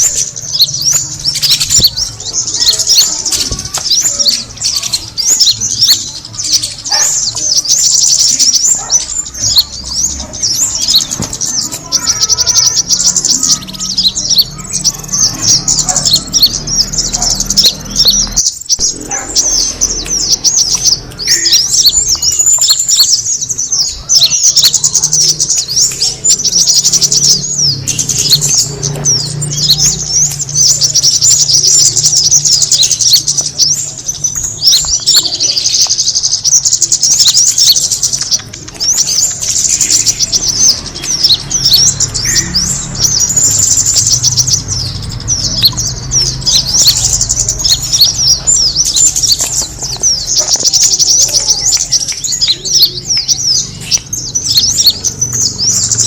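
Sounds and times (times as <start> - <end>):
bird call chirps and twitters: 0.0 - 56.0.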